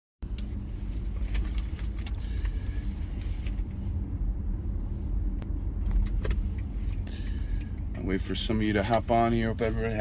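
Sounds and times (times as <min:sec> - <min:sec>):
vehicle engine rumble: 0:00.2 - 0:10.0.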